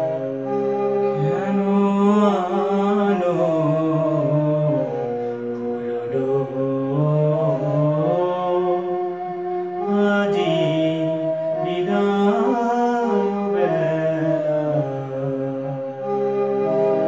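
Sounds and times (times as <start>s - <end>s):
electronic keyboard chords: 0.0s - 17.0s
man singing slow melody: 1.1s - 16.1s.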